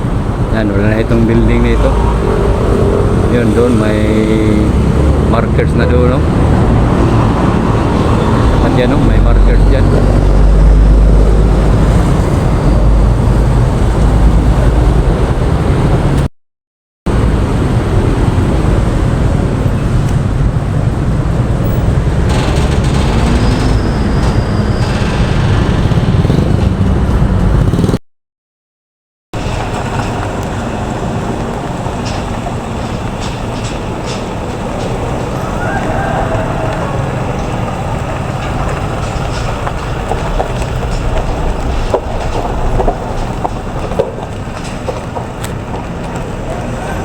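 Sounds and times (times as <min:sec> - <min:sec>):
road traffic rumble: 0:00.0 - 0:16.3, 0:17.1 - 0:28.0, 0:29.4 - 0:47.0.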